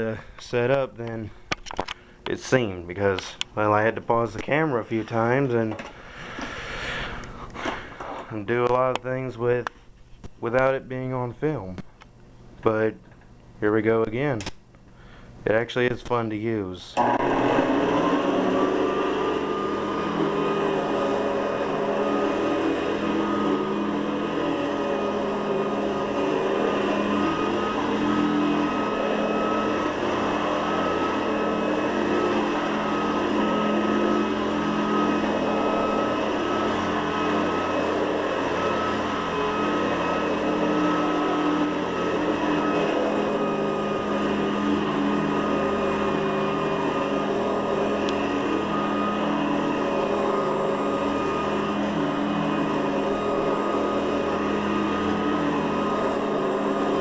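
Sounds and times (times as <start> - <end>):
upright vacuum cleaner running: 0.0 - 9.0, 17.0 - 57.0.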